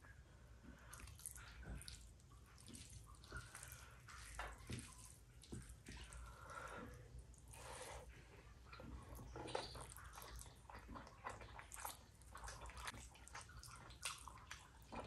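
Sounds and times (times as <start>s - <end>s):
wet chewing and squishing: 0.8s - 6.7s, 7.3s - 15.0s.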